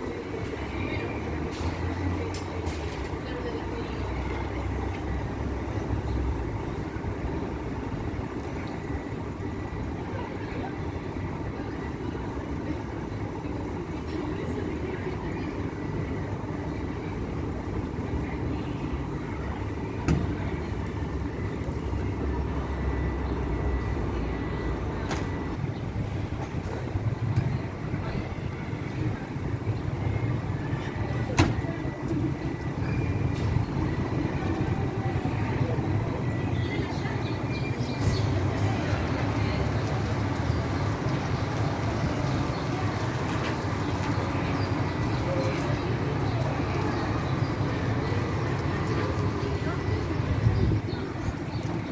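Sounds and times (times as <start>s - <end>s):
coach engine and road rumble: 0.0s - 51.9s.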